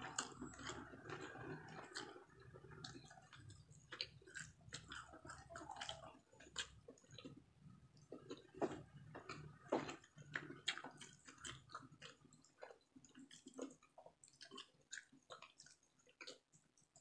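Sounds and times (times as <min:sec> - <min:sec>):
mouth chewing with wet smacks: 0:00.0 - 0:17.0.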